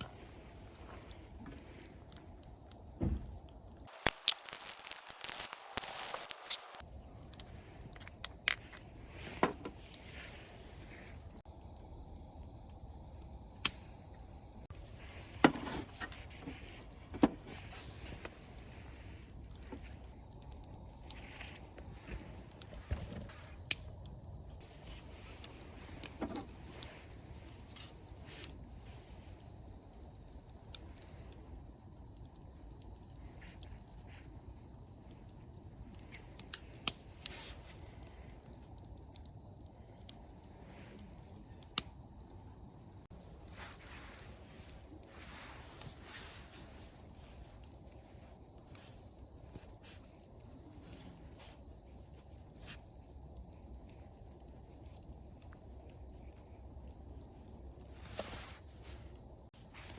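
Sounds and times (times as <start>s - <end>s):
low steady background noise: 6.7s - 59.9s.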